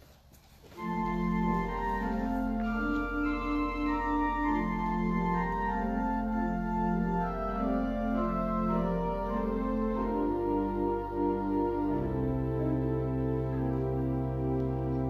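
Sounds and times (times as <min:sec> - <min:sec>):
organ chords over low bass: 0:00.8 - 0:15.0.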